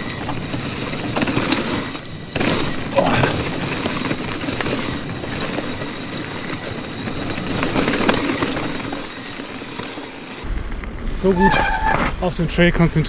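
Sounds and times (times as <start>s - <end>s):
bicycle freewheel hub ratcheting: 0.0s - 10.5s
tyres rumbling on dirt: 0.0s - 13.0s.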